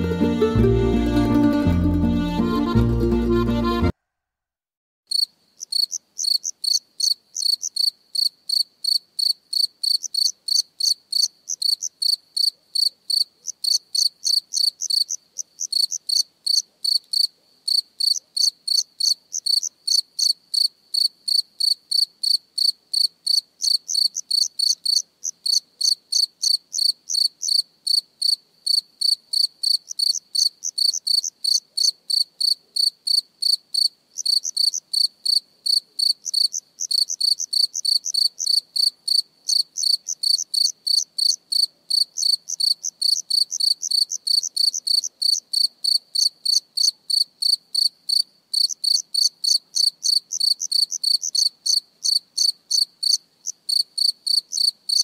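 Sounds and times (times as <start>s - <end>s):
cricket chirping: 5.1s - 55.0s.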